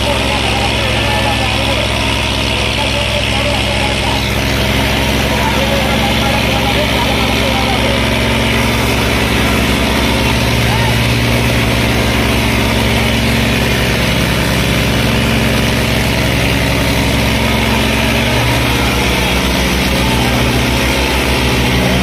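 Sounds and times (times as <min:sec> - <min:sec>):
tractor diesel engines under load: 0:00.0 - 0:22.0.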